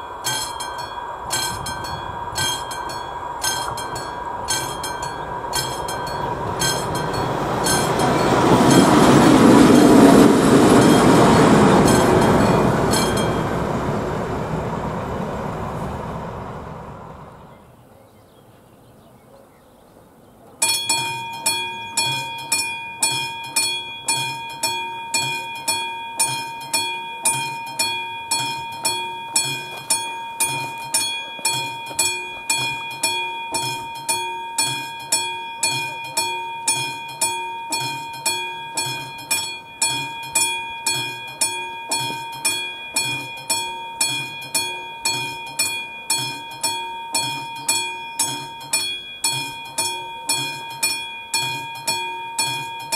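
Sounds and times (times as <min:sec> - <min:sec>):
level crossing bell ringing: 0:00.0 - 0:14.3, 0:20.6 - 0:52.9.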